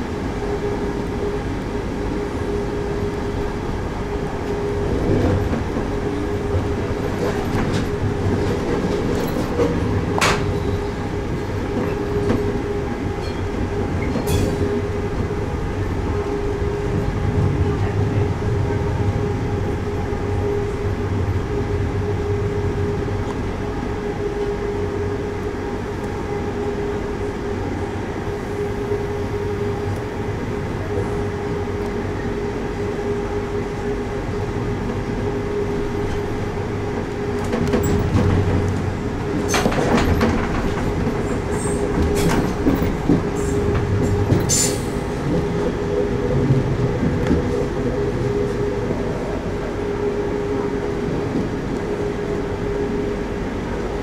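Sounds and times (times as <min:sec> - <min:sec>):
train drive hum: 0:00.0 - 0:54.0
wheel-on-rail rumble: 0:00.0 - 0:54.0.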